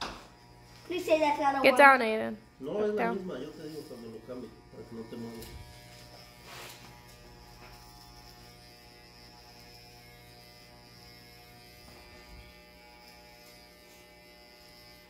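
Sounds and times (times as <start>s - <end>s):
electric hair clippers humming: 0.0s - 15.0s.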